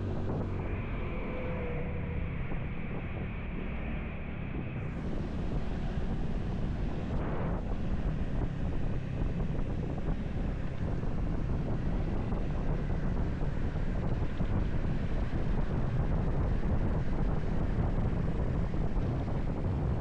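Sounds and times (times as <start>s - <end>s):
wind rushing over microphone: 0.0s - 3.6s, 4.4s - 20.0s
motorcycle road noise: 0.0s - 20.0s.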